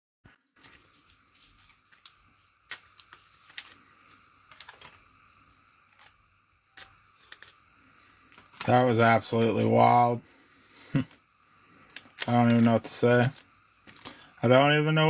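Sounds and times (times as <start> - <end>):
background hiss: 0.5 - 15.0.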